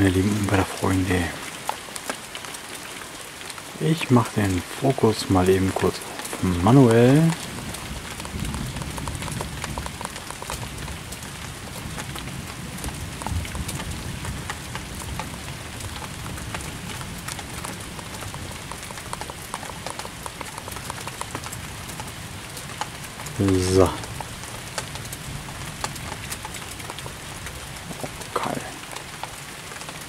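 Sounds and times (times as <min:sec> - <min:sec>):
raindrops clicking close by: 0:00.0 - 0:30.0
steady rain hiss: 0:00.0 - 0:30.0.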